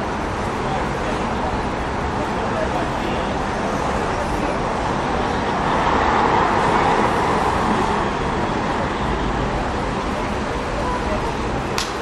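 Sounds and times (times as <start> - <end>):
car engines: 0.0 - 12.0.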